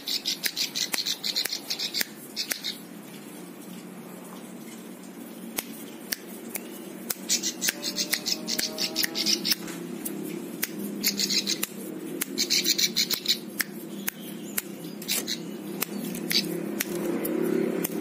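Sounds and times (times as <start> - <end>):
bird rapid clicking trills: 0.0 - 2.9, 5.2 - 18.0
bird sharp chips: 0.0 - 2.9, 5.5 - 9.7, 10.6 - 18.0.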